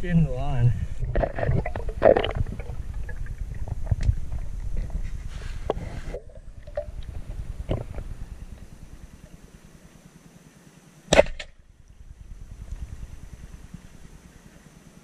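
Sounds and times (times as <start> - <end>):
underwater low rumble: 0.0 - 10.2, 11.6 - 15.0
underwater bubbling: 0.8 - 10.0, 11.7 - 15.0.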